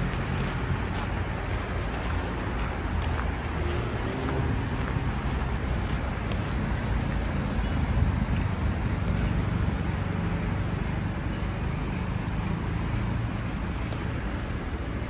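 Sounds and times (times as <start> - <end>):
road traffic rumble: 0.0 - 15.0
street noise: 0.0 - 15.0.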